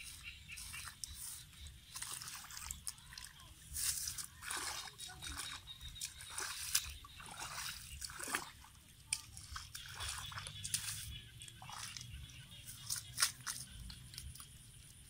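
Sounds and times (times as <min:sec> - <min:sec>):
bare feet squelching through mud: 0:00.0 - 0:15.0.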